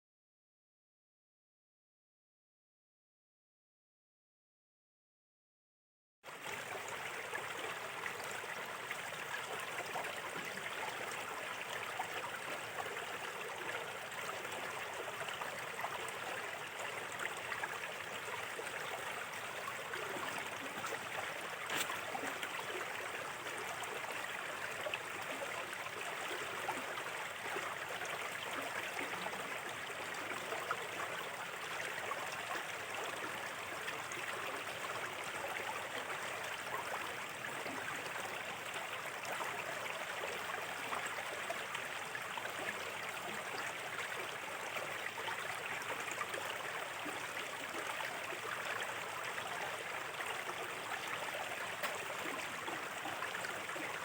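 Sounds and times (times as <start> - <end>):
shallow river babbling: 6.3 - 54.0.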